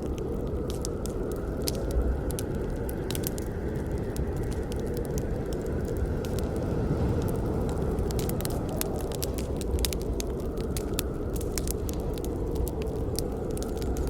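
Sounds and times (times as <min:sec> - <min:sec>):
low rumble of fire: 0:00.0 - 0:14.0
wood crackling and popping: 0:00.0 - 0:14.0.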